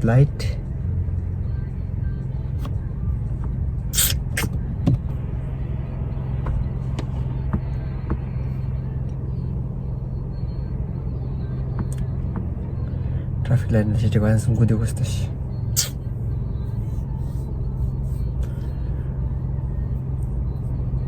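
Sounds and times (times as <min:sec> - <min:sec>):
car engine rumble inside cabin: 0:00.0 - 0:21.0.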